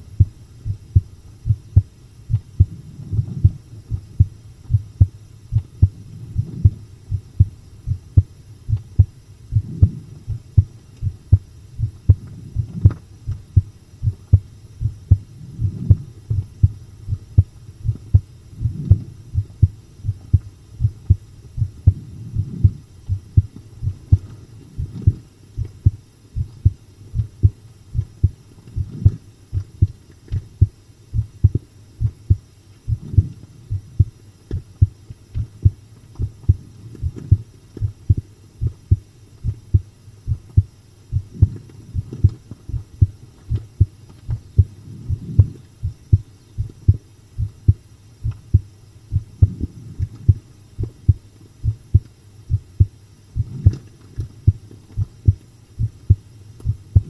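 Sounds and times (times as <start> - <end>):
heartbeat double thumps: 0.0 - 57.0
soft low noise: 0.0 - 57.0.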